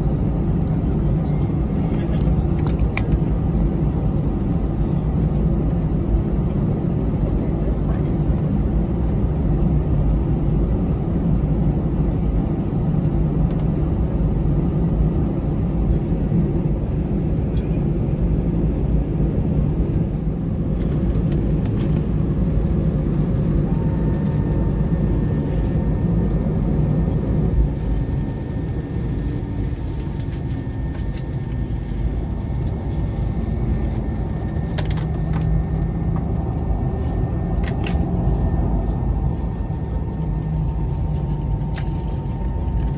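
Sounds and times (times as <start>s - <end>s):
aircraft cabin rumble: 0.0s - 42.9s.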